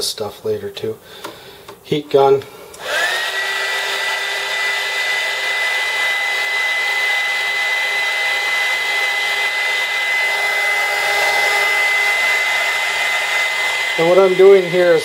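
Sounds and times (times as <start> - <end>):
heat gun blowing air: 2.6 - 15.0
high fan motor whine: 2.8 - 15.0.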